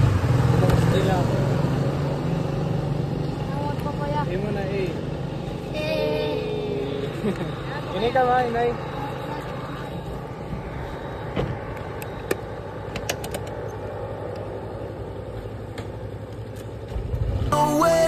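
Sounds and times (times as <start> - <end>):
road and wind noise: 0.0 - 18.0
scooter engine cruising: 0.0 - 18.0.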